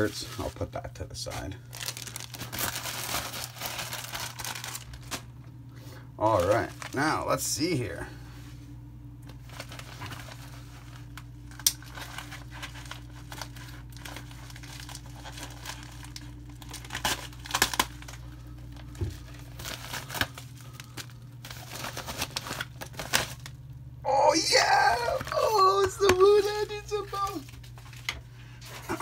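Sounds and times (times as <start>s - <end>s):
paper wrapping rustling and tearing: 0.0s - 5.3s, 6.2s - 7.2s, 9.3s - 23.6s, 24.3s - 29.0s
steady low hum: 0.0s - 29.0s.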